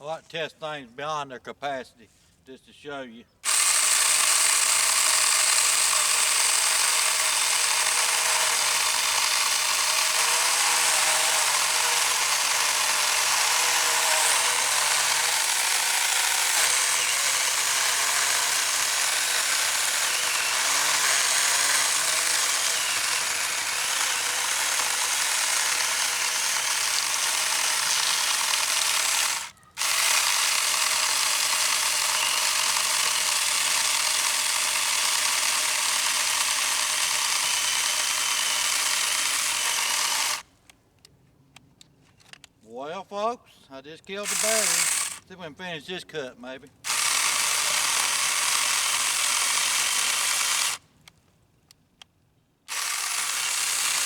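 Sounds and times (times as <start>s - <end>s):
chainsaw cutting wood: 3.4s - 40.5s, 44.2s - 45.3s, 46.8s - 51.1s, 52.7s - 54.0s.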